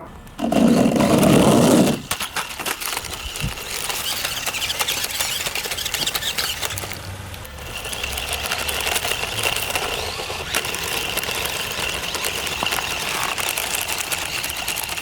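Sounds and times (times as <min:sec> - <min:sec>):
plastic body rattling and clicking: 0:00.2 - 0:15.0
toy car motors whirring: 0:00.2 - 0:15.0.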